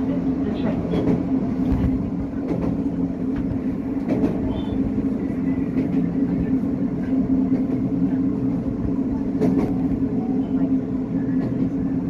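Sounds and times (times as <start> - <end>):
railcar engine hum: 0.0 - 12.0.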